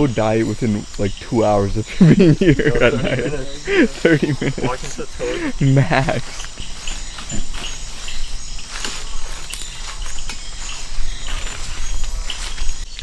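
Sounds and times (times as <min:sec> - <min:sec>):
footsteps in undergrowth: 0:00.0 - 0:13.0
insects trilling: 0:00.0 - 0:13.0
rustling of undergrowth: 0:00.0 - 0:13.0.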